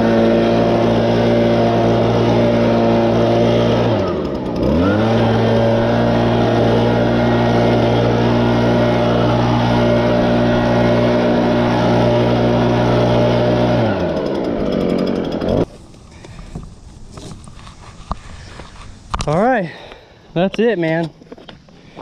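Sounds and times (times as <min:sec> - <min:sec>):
leaf blower engine running: 0:00.0 - 0:20.5.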